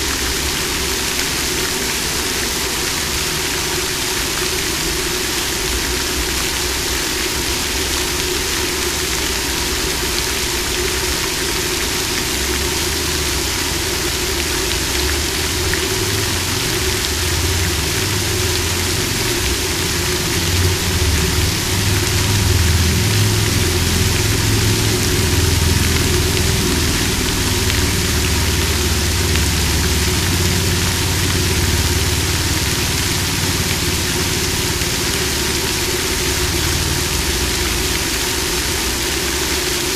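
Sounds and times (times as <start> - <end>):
low engine-like rumble: 0.0 - 39.9
water fountain splashing: 0.0 - 39.9.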